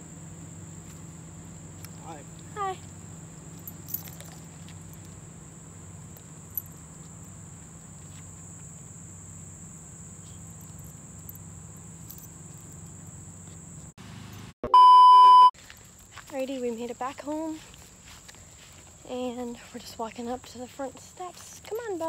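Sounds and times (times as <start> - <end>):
insects droning: 0.0 - 14.0, 15.6 - 22.0.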